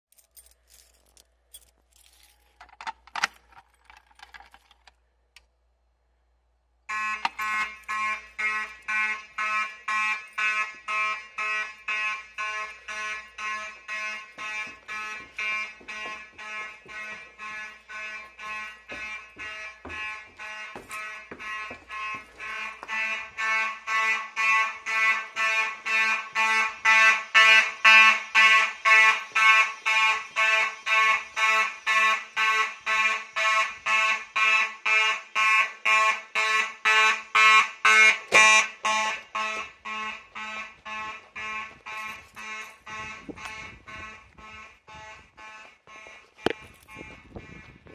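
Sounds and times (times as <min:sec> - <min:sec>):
fire alarm horn pulsing: 0:06.9 - 0:47.9.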